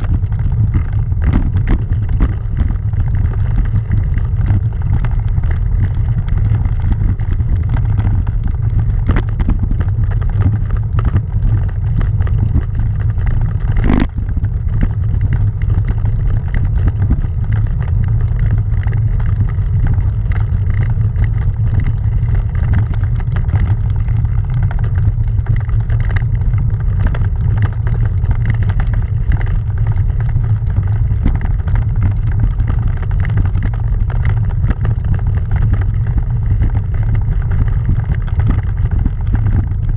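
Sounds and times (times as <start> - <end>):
bicycle rattling over cobblestones: 0.0 - 39.9.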